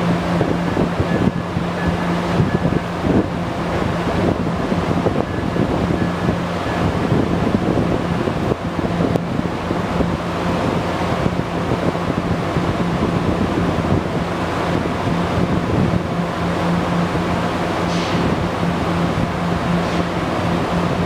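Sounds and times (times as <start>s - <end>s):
train rumbling: 0.0s - 21.0s
wind buffeting microphone: 0.0s - 21.0s.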